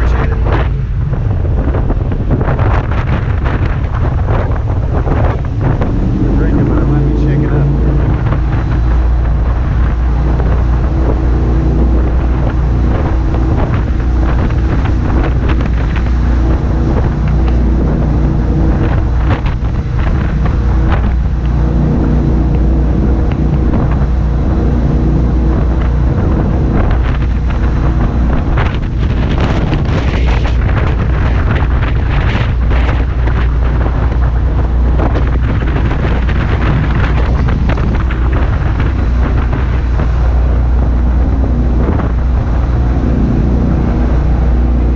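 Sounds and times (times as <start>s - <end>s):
boat engine drone: 0.0s - 44.9s
rushing water: 0.0s - 44.9s
wind noise on microphone: 0.0s - 44.9s.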